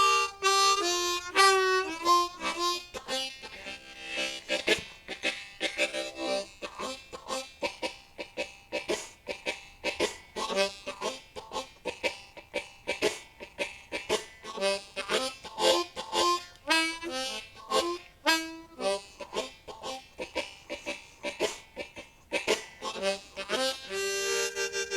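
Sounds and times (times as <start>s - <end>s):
blues harmonica: 0.0s - 24.9s.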